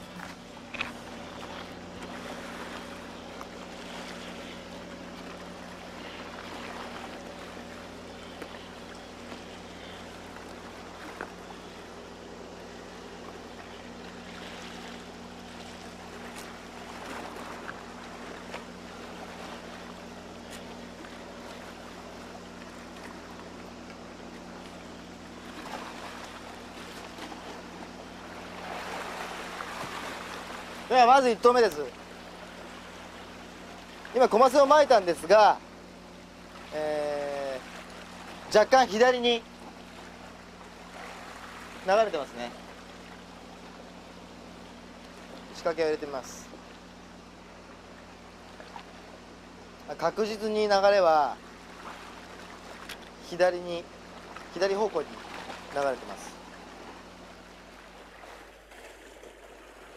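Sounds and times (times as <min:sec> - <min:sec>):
sea water lapping against rocks: 0:00.0 - 0:24.8, 0:25.4 - 0:35.5, 0:36.4 - 0:43.8, 0:49.9 - 0:59.9
steady low hum: 0:00.0 - 0:59.9.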